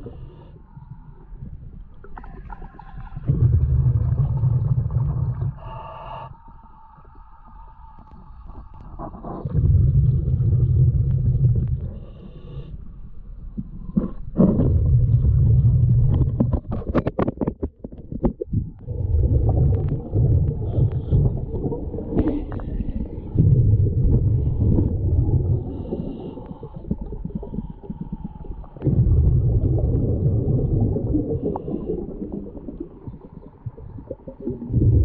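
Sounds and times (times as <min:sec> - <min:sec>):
underwater gurgling: 0:00.0 - 0:12.7, 0:13.3 - 0:35.0
exhaled air bubbling underwater: 0:00.0 - 0:35.0.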